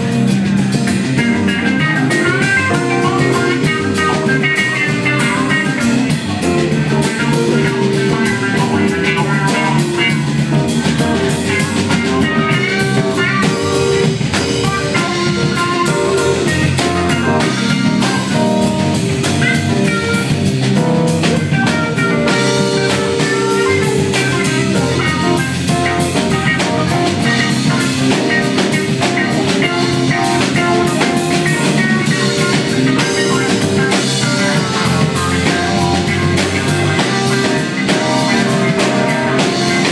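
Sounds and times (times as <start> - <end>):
live blues rock band: 0.0 - 39.9.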